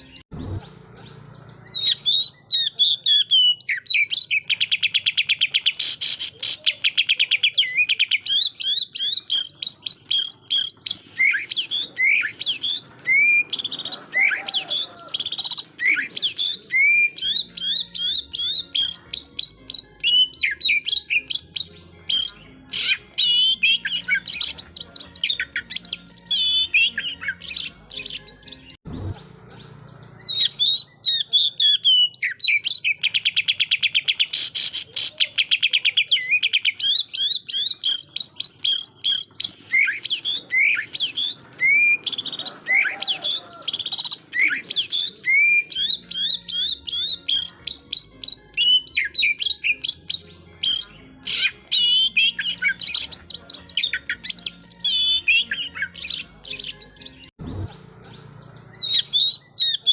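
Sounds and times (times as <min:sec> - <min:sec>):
magpie-robin singing whistles and trills: 0:00.0 - 0:59.9.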